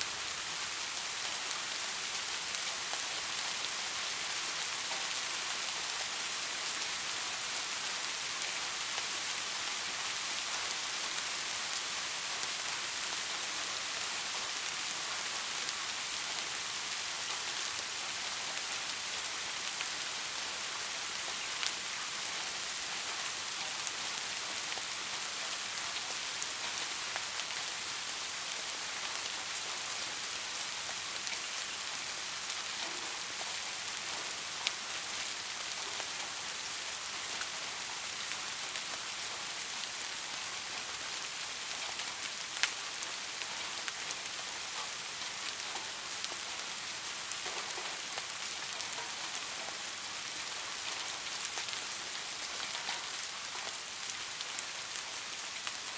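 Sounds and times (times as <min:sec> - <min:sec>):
steady rain: 0:00.0 - 0:55.9
raindrops ticking close by: 0:00.1 - 0:55.9.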